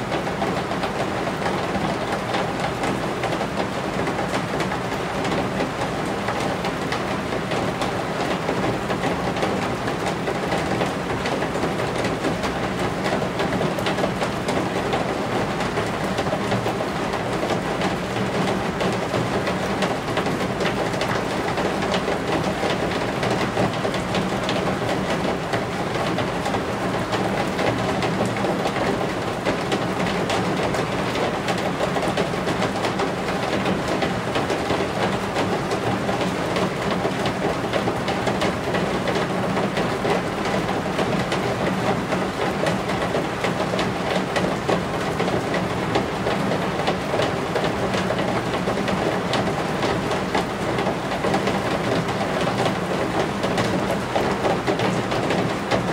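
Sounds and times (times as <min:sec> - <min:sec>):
rain on roof eaves: 0:00.0 - 0:55.9.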